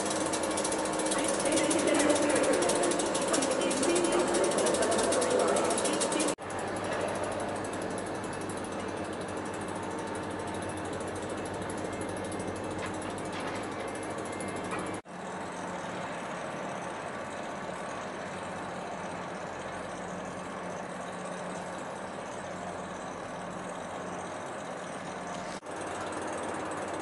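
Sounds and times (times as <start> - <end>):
electric locomotive humming: 0.0 - 27.0.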